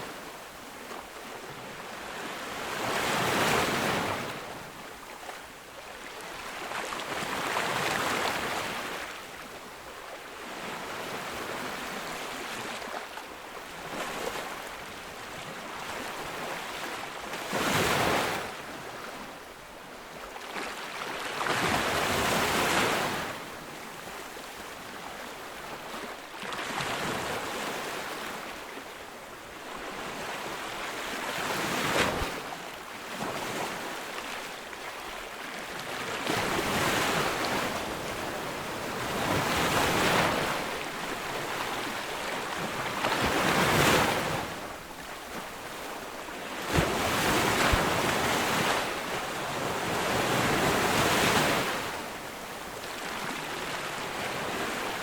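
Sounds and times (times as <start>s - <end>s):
waves breaking on beach: 0.0s - 19.5s, 20.2s - 55.0s.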